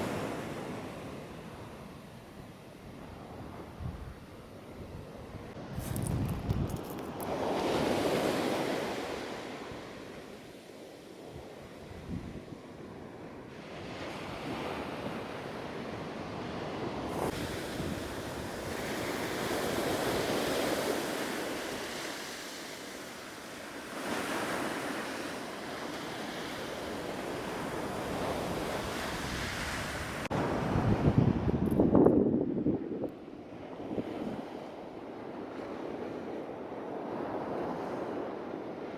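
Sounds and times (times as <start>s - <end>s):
wind rumbling on microphone: 0.0s - 22.8s, 25.8s - 38.9s
ocean surf washing onto beach: 0.0s - 31.7s.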